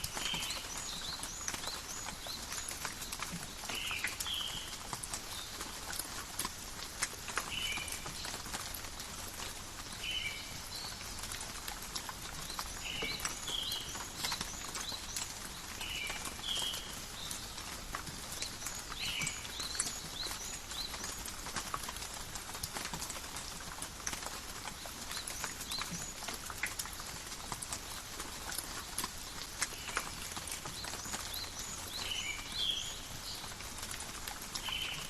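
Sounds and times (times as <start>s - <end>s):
drops tapping leaves and ground: 0.0s - 35.0s
rain falling in a forest: 0.0s - 35.0s.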